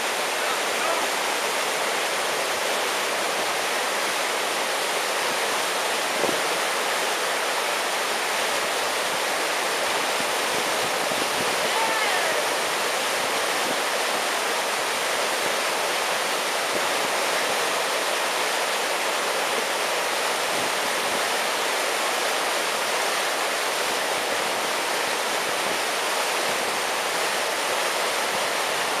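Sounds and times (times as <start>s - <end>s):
river whitewater rushing: 0.0s - 29.0s.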